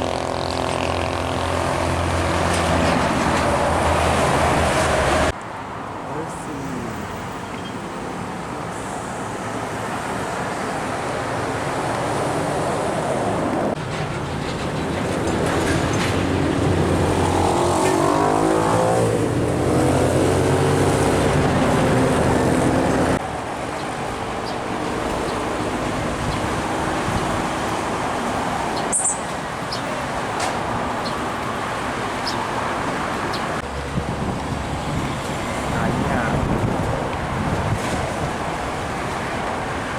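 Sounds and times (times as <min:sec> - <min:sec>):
truck engine passing close: 0:00.0 - 0:05.4, 0:10.2 - 0:39.9
road traffic: 0:00.0 - 0:39.9.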